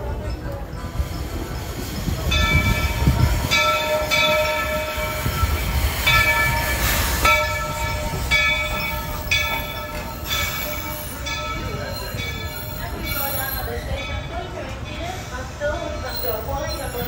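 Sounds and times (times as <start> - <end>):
low rumble of train: 0.0 - 17.0.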